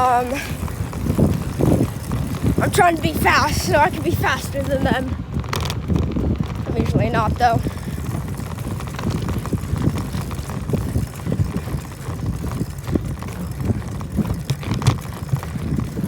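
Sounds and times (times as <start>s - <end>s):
bicycle riding rumble: 0.0s - 16.0s.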